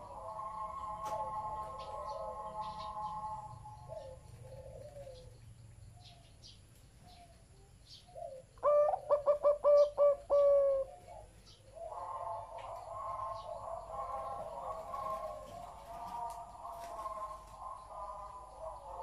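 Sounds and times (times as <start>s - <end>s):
dove cooing: 0.0s - 19.0s
small birds chirping: 0.0s - 19.0s.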